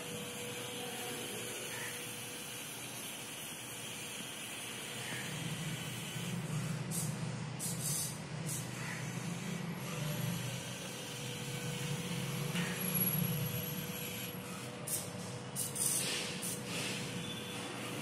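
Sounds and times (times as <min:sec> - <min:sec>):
small gear motors whirring: 0:00.0 - 0:18.0.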